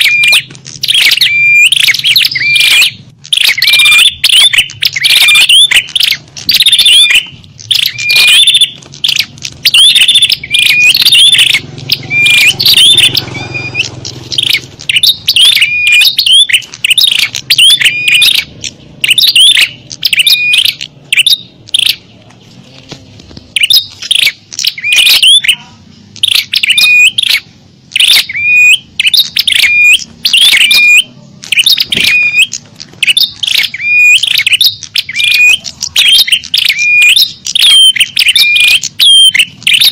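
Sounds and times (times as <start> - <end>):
high bird chirping: 0.0 - 39.9.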